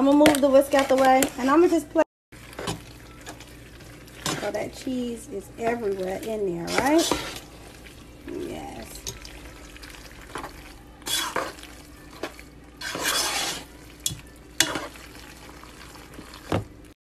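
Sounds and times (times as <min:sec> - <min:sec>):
thick food being stirred: 0:00.0 - 0:17.0.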